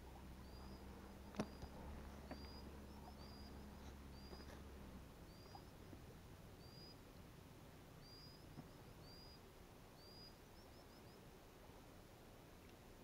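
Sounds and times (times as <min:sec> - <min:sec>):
faint bird chirps: 0:00.0 - 0:07.3, 0:08.0 - 0:11.4.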